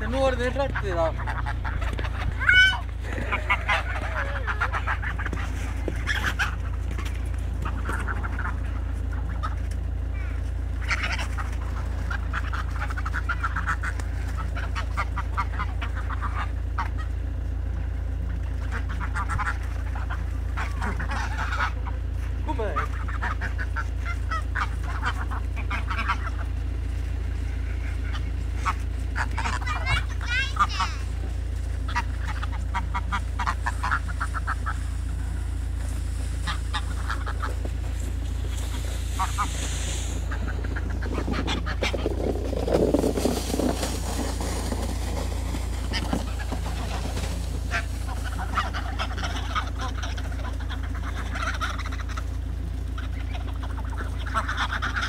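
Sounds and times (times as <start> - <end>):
geese honking: 0.0 - 55.0
low rumble: 0.0 - 55.0.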